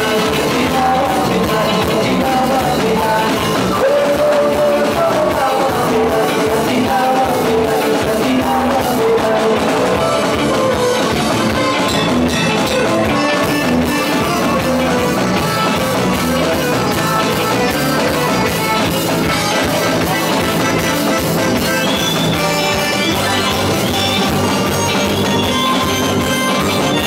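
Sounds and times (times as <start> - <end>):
drums: 0.0 - 27.0
electric guitar: 0.0 - 27.0
live band music: 0.0 - 27.0.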